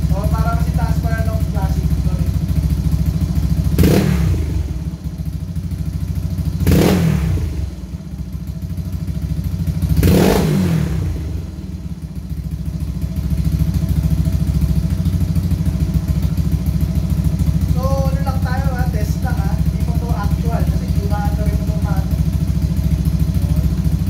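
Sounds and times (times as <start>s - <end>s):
two-stroke engine idling and revving: 0.0s - 24.0s.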